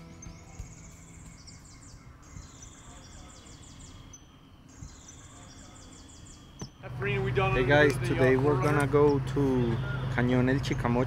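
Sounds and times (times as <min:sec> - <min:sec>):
insects chirping: 0:00.0 - 0:09.3.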